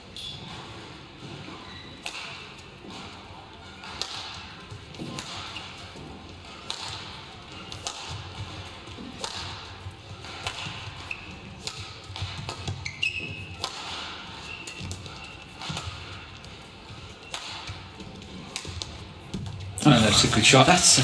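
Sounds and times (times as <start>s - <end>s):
shoes squeaking on court floor: 0.0s - 21.0s
racket striking shuttlecock: 2.0s - 3.1s, 3.8s - 19.6s.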